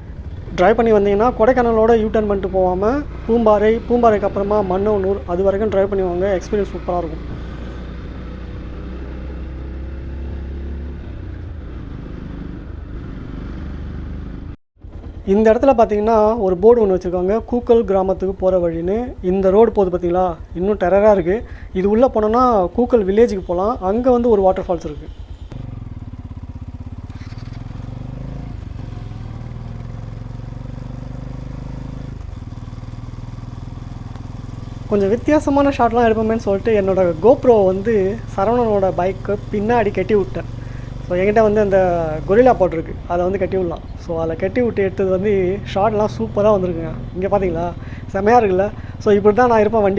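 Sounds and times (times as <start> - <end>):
motorcycle engine running: 0.0 - 49.9
road and wind noise: 0.0 - 49.9.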